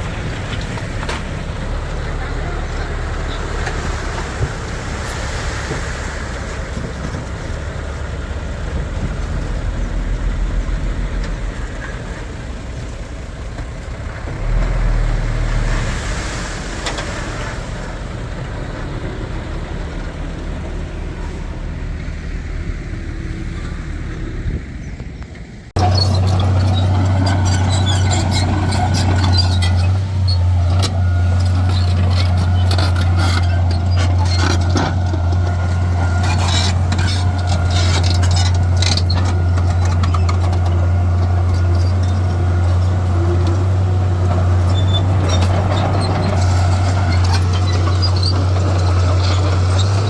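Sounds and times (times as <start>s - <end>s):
close engine hum: 0.0s - 50.0s
heavy machinery diesel rumble: 0.0s - 50.0s.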